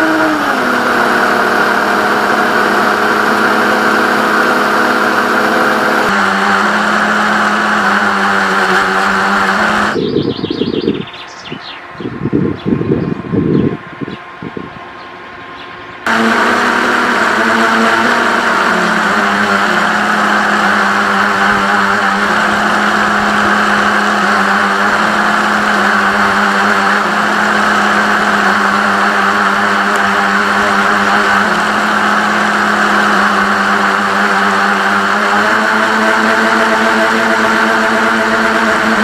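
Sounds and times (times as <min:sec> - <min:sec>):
toy boat motor running: 0:00.0 - 0:10.1, 0:16.1 - 0:39.0.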